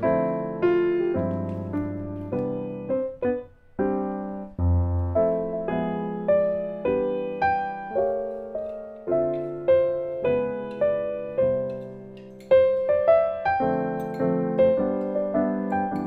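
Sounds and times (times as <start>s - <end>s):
slow gentle piano melody: 0.0s - 16.0s.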